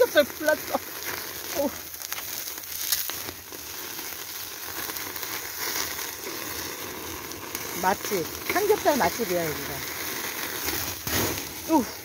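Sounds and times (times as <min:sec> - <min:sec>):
fire crackling and popping: 0:00.0 - 0:12.0
meat sizzling over fire: 0:00.0 - 0:12.0.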